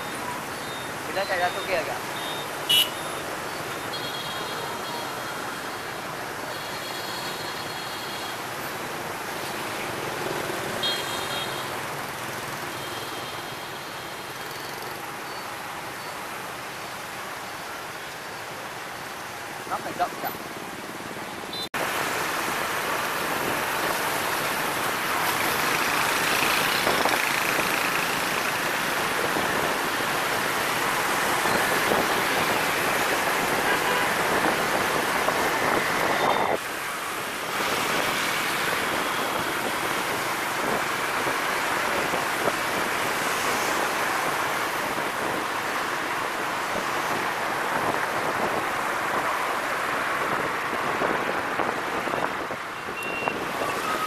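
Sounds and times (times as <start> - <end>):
city traffic noise: 0.0 - 54.0.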